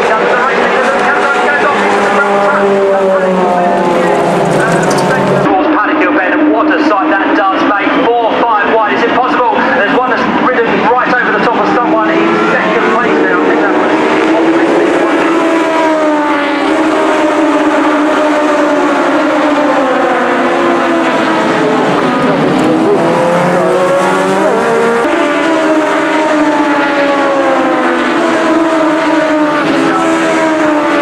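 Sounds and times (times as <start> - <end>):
racing car engines: 0.0 - 31.0.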